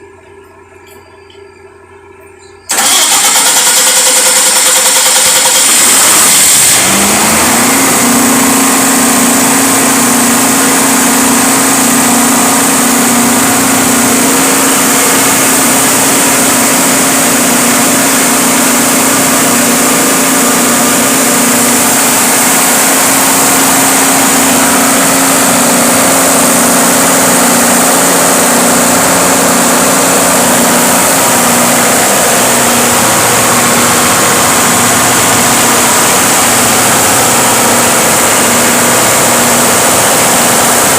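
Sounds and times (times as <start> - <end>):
diesel engine idling: 2.4 - 40.9.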